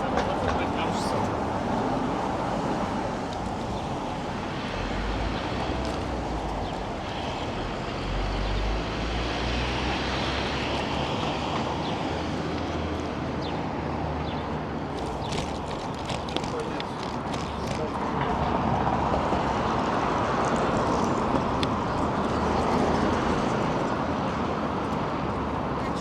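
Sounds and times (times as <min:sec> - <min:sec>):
city street traffic noise: 0:00.0 - 0:26.0.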